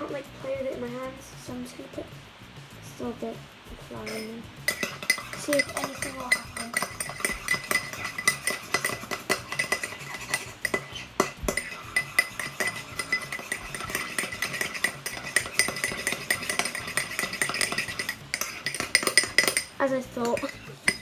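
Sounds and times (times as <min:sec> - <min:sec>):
spoon scraping and clinking in bowl: 0:04.1 - 0:21.0.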